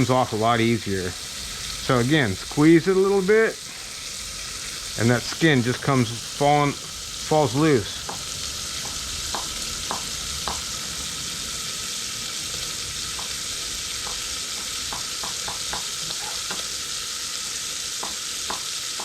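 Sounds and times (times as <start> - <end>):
fat sizzling in a pot: 0.0 - 19.0.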